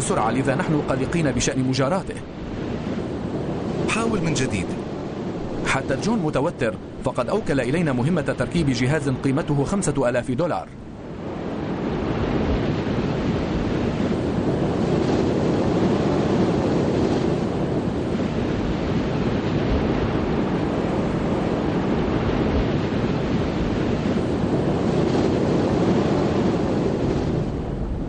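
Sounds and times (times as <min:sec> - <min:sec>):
waves: 0:00.0 - 0:28.0
wind: 0:00.0 - 0:28.0.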